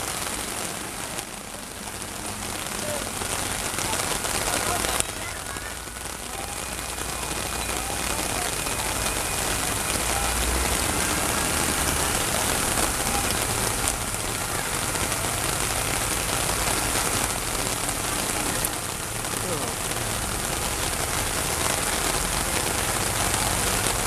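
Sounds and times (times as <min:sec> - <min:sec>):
heavy rain hissing: 0:00.0 - 0:24.0
tractor engine rumble: 0:00.0 - 0:24.0.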